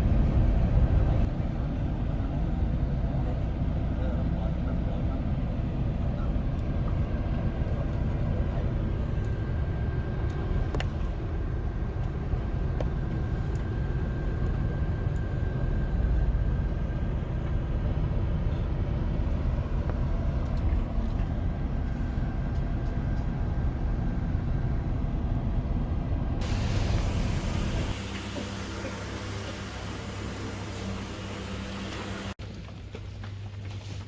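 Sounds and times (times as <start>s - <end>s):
vehicle rumble in motion: 0.0s - 34.0s.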